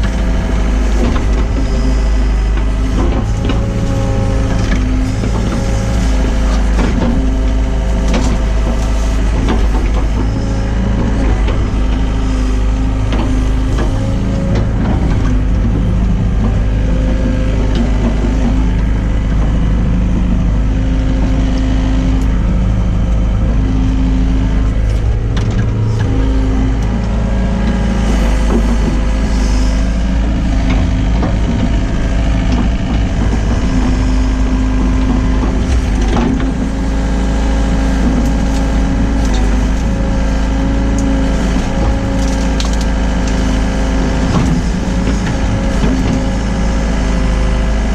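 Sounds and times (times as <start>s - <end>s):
excavator diesel engine: 0.0s - 47.9s.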